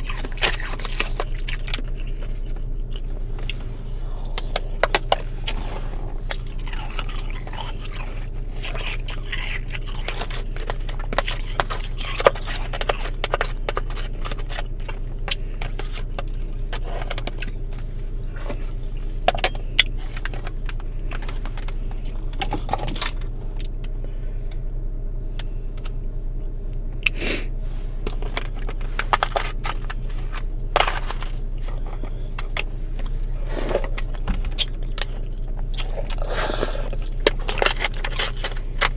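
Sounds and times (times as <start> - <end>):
crunching frost in mouth: 0.0 - 23.7, 26.7 - 38.9
steady low hum: 0.0 - 38.9.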